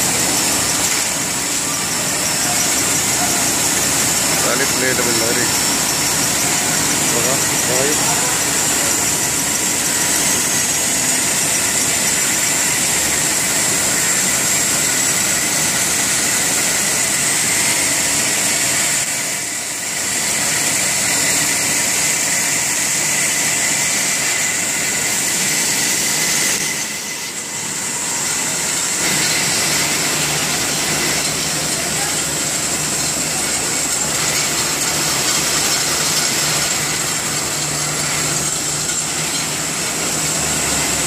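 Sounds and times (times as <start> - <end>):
high machine whine: 0.0 - 41.0
paper rewinder machine din: 0.0 - 41.0.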